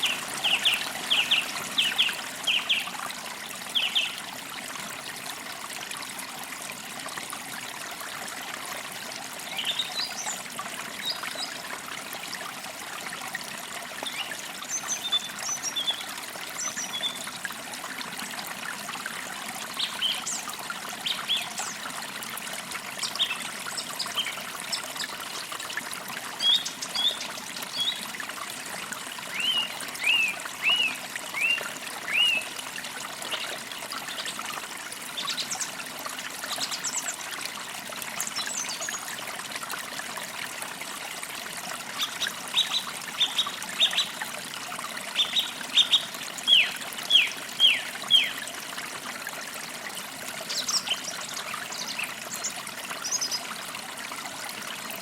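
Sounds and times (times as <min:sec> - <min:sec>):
creek trickling: 0:00.0 - 0:55.0.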